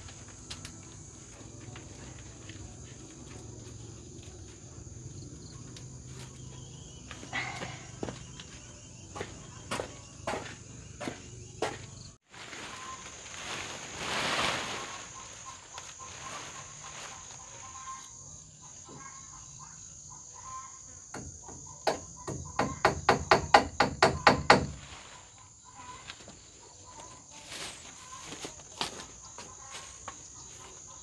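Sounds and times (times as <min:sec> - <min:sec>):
crickets chirring: 0:00.0 - 0:31.0.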